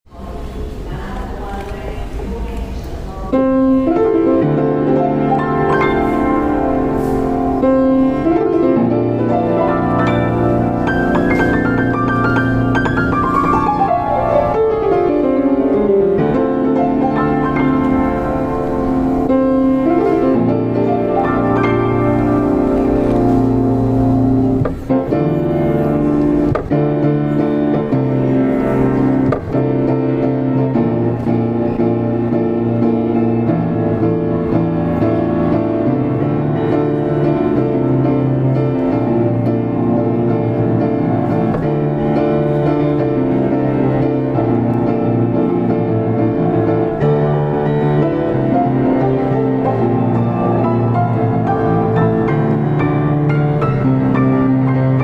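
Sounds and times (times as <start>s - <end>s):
grand piano played loud and fast: 3.2s - 55.0s.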